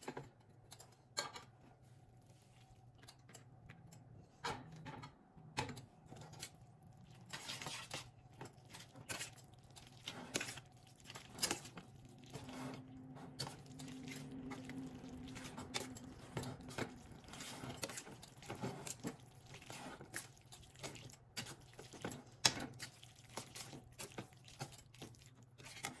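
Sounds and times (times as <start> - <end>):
low steady hum: 0.0 - 26.0
wet squishing of noodles: 1.8 - 3.9, 5.9 - 26.0.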